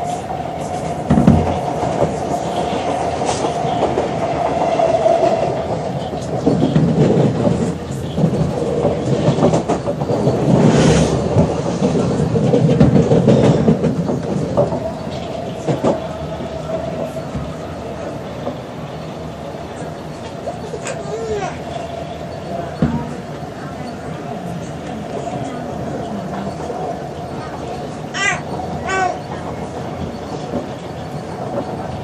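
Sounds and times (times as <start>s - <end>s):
metro train whine and rumble: 0.0s - 32.0s
wheels clattering on track: 0.0s - 32.0s.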